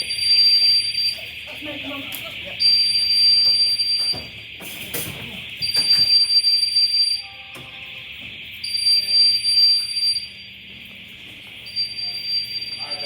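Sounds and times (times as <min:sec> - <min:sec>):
high-pitched electronic alarm tone: 0:00.0 - 0:10.7, 0:11.6 - 0:13.0.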